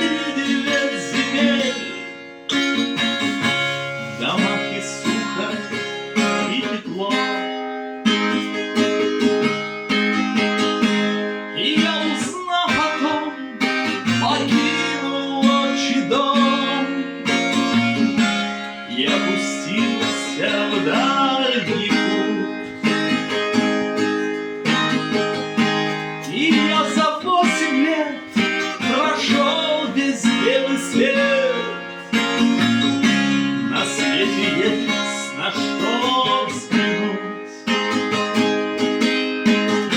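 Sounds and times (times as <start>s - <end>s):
acoustic guitar song: 0.0s - 39.9s.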